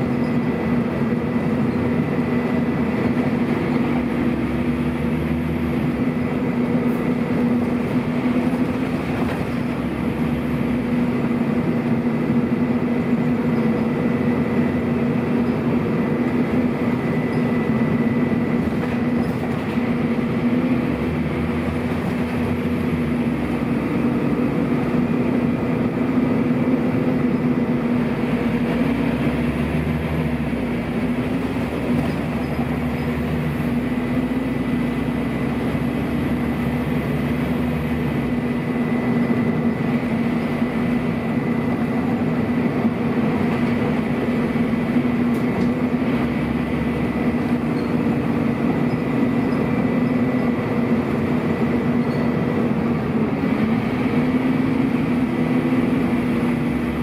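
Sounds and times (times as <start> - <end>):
bus diesel engine running: 0.0 - 57.0
cooling fan whine: 0.0 - 57.0.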